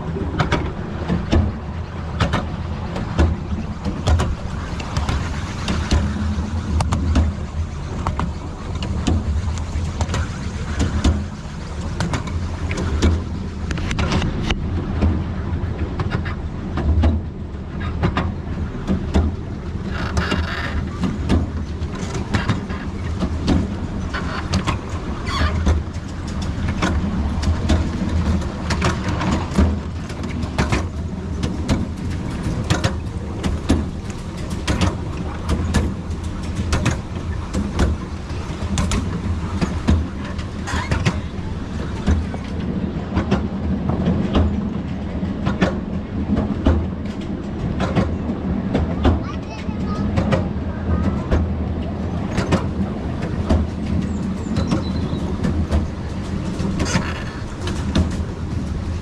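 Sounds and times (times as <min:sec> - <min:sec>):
low train rumble: 0:00.0 - 0:59.0
train wheels clattering on rails: 0:00.0 - 0:59.0.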